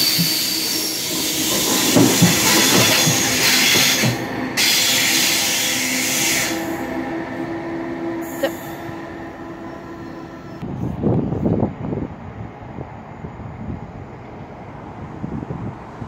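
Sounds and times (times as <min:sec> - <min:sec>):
electric train rushing past: 0:00.0 - 0:16.0.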